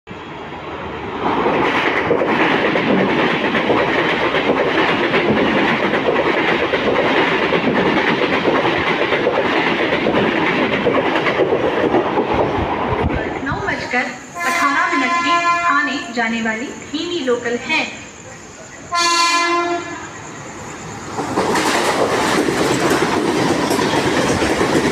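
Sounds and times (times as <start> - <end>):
train wheels clattering: 1.2 - 15.5, 18.9 - 24.9.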